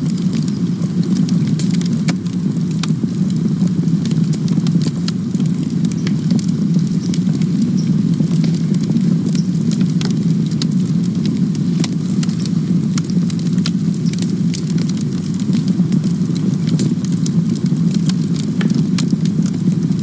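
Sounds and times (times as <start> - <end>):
burning wood crackling and popping: 0.0 - 20.0
low rush of campfire flames: 0.0 - 20.0.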